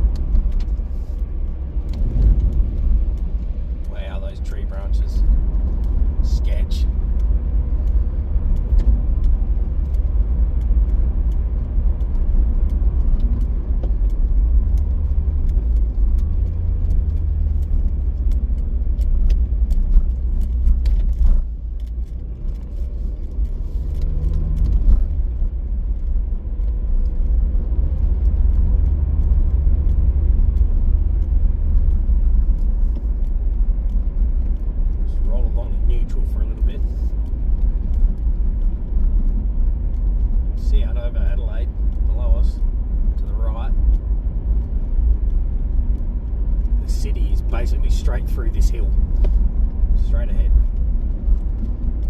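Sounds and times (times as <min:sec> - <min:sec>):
tyre and road rumble: 0:00.0 - 0:52.0.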